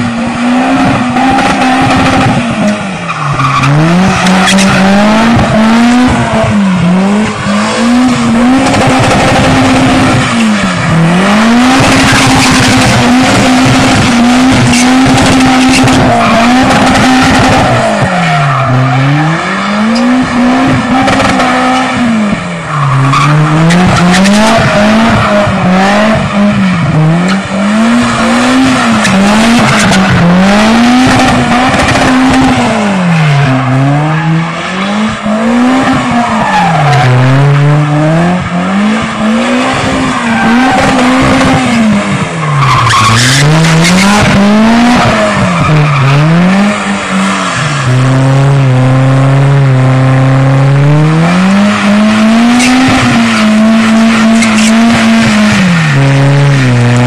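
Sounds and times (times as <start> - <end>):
car engine revving hard: 0.0 - 57.0
tyres skidding and squealing: 0.0 - 57.0.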